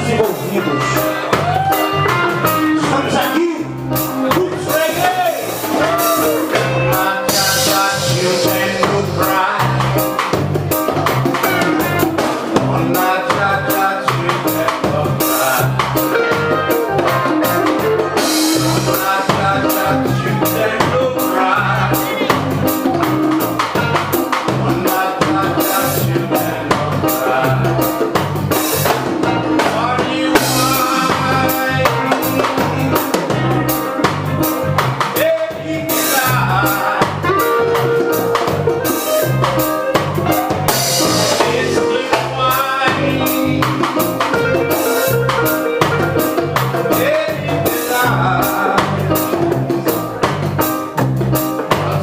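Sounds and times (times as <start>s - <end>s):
reggae band playing: 0.0s - 52.0s.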